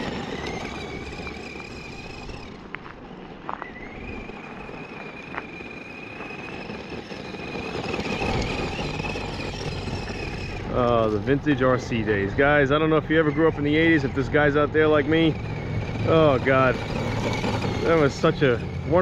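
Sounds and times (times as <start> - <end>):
electric toy truck motor whine: 0.0 - 19.0.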